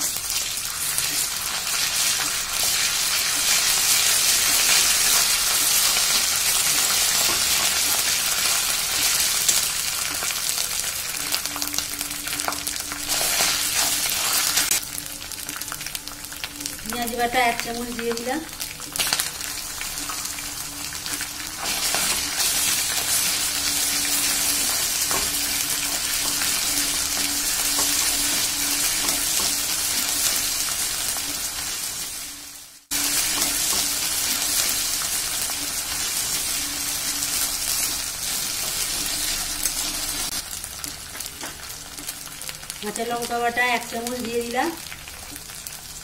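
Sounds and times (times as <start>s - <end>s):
onions sizzling in hot oil: 0.0s - 46.0s.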